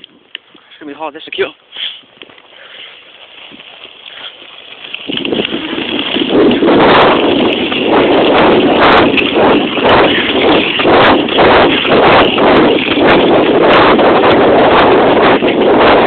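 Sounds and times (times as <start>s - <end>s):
wind buffeting microphone: 0.0s - 16.0s
heavy running footfalls: 2.1s - 16.0s.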